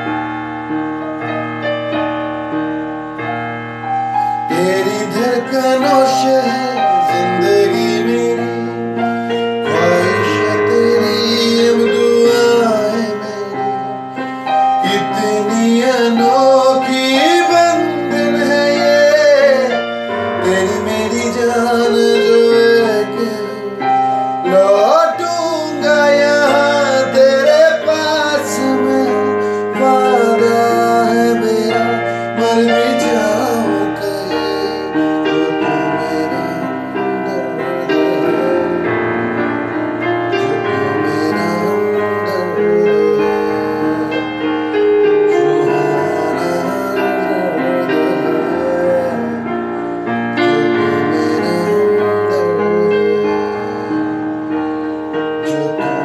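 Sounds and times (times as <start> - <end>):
electronic keyboard playing chords: 0.0 - 56.0
person singing: 4.1 - 56.0.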